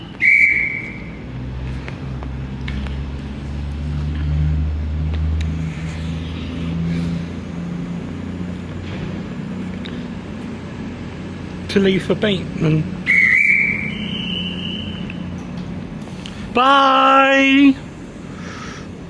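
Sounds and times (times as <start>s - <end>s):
electric train humming: 0.0s - 19.0s.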